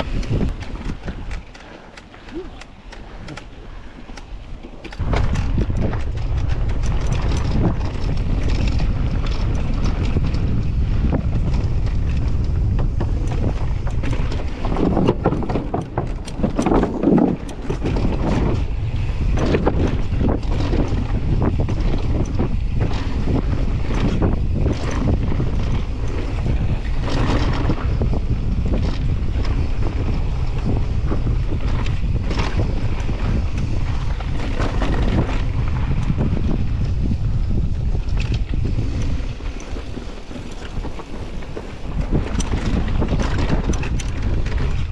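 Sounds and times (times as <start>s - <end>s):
bike clattering over rough ground: 0.0s - 44.9s
wind buffeting microphone: 0.0s - 44.9s.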